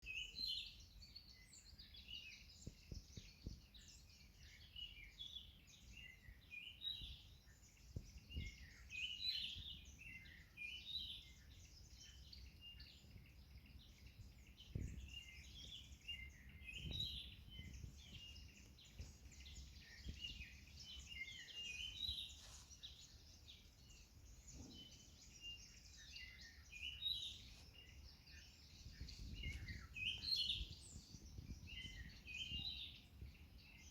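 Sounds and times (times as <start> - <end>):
birds chirping and trilling: 0.0 - 33.9.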